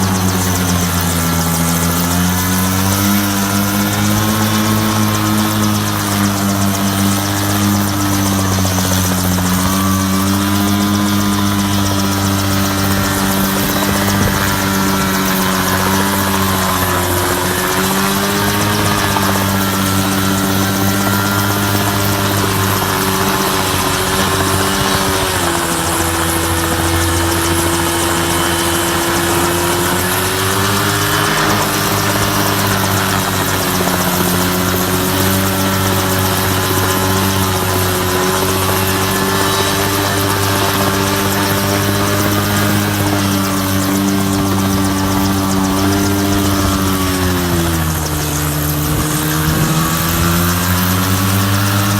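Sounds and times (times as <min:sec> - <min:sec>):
small engine running at high speed: 0:00.0 - 0:51.9.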